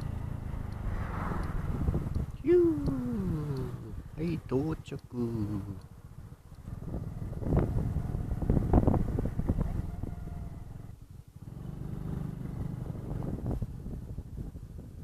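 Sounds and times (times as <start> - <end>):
motorcycle engine running: 0.0 - 4.2, 5.4 - 14.7.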